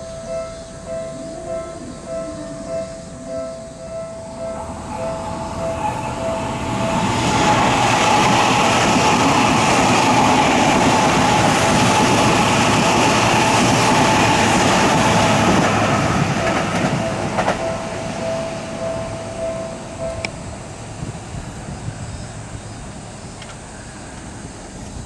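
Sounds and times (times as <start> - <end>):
level crossing warning bell: 0.0 - 21.2
train wheels rushing on rail: 4.3 - 25.0.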